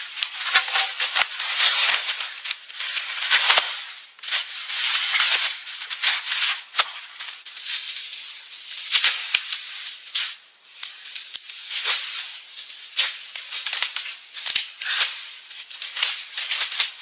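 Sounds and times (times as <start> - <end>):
dry leaves and twigs rustling: 0.0 - 17.0.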